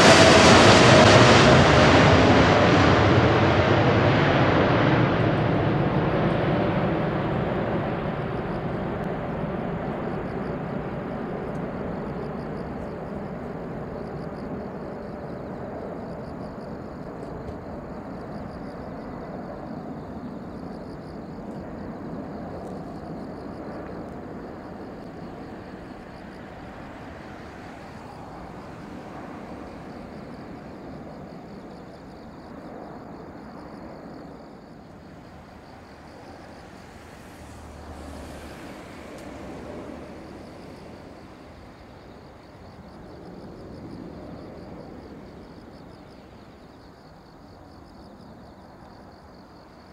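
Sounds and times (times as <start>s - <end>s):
jet engine rumble: 0.0s - 49.9s.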